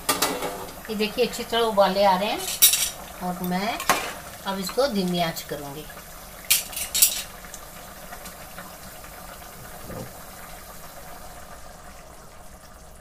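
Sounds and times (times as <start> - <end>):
water boiling in a pot: 0.0 - 13.0.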